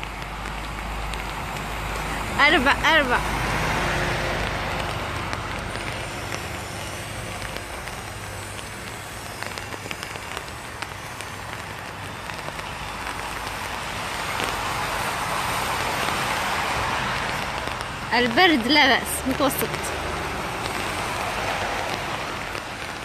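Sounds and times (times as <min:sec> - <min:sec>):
low traffic rumble: 0:00.0 - 0:23.0
rain drops hitting an umbrella: 0:00.0 - 0:23.0.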